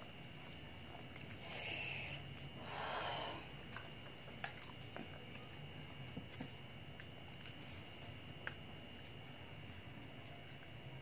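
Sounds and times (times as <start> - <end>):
chewing crisp mango: 0.1 - 2.6, 3.5 - 11.0.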